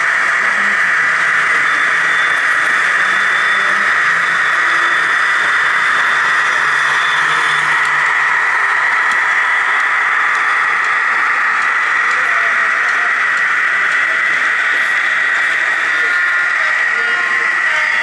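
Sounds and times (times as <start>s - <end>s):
model train whirring hiss: 0.0s - 10.3s, 10.9s - 18.0s
faint high whine: 0.3s - 18.0s.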